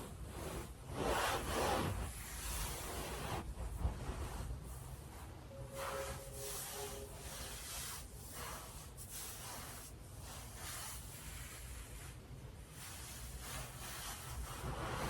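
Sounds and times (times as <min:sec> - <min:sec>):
stockings swishing on bedding: 0:00.0 - 0:15.0.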